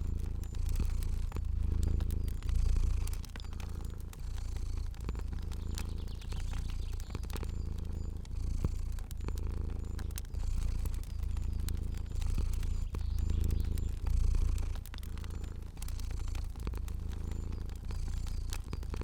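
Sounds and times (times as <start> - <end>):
cat purring: 0.0 - 19.0
fire crackling: 0.0 - 19.0.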